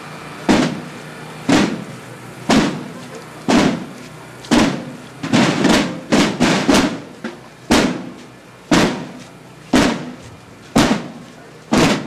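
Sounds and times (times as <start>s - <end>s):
marching drums beating: 0.5s - 12.0s.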